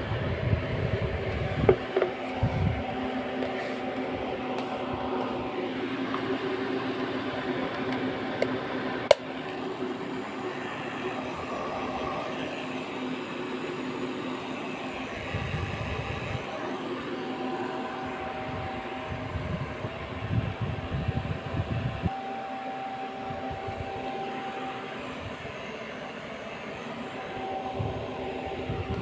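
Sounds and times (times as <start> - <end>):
electric fans whirring: 0.0 - 29.0.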